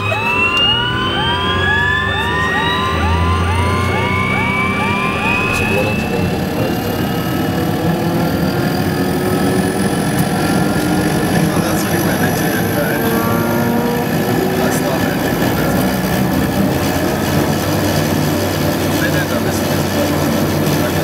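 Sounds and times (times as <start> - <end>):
low hum: 0.0 - 21.0
turboprop engine spooling up: 0.0 - 21.0.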